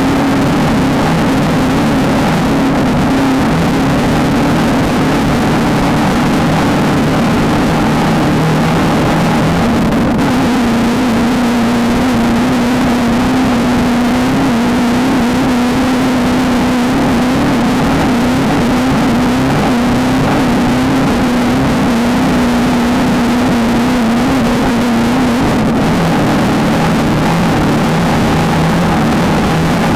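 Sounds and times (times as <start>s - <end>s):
race car engine running hard: 0.0s - 29.9s
road and wind noise: 0.0s - 29.9s.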